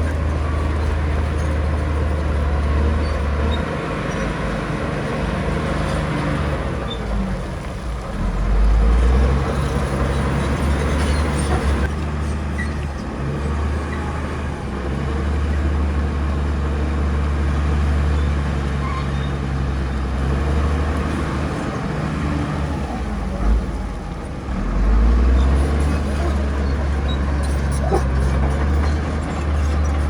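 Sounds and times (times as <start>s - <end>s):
heavy diesel engine under load: 0.0s - 30.0s.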